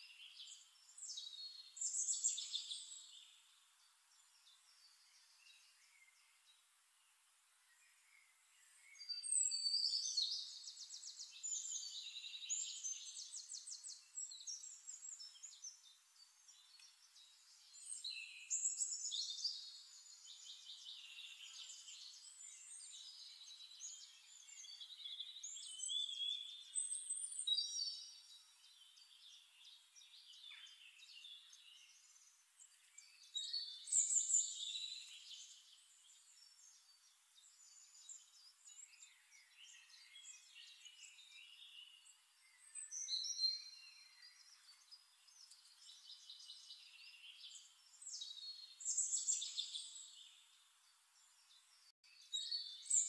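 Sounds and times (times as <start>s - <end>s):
faint steady hiss: 0.0s - 53.0s
songbirds trilling and chirping: 0.0s - 53.0s.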